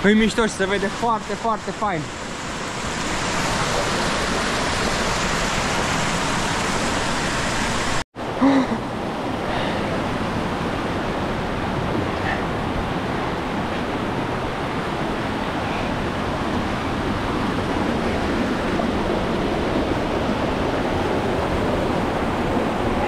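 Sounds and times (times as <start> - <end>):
waterfall rushing: 0.3 - 23.0.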